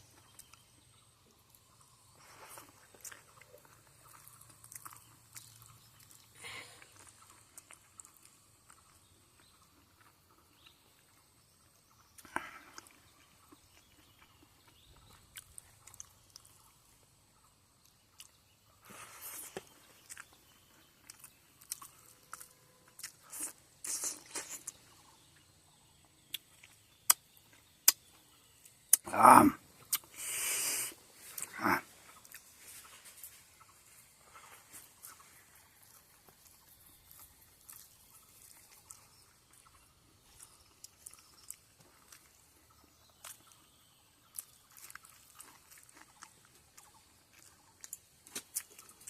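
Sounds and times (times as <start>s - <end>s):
person chewing food: 0.1s - 29.2s, 29.8s - 49.0s
food crunching: 1.4s - 11.2s, 12.0s - 17.0s, 17.8s - 30.2s, 31.2s - 49.0s.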